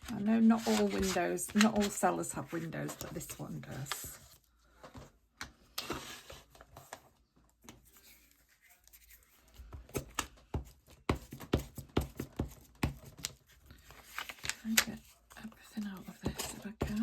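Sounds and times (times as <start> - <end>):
paper rustling: 0.1 - 5.0, 5.8 - 10.6, 12.2 - 17.0.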